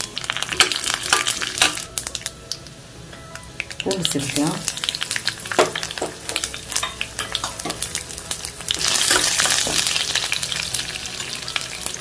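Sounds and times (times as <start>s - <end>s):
pan being stirred: 0.0s - 2.7s, 3.4s - 12.0s
crackles and pops: 0.0s - 12.0s
spices sizzling in hot oil: 0.0s - 12.0s.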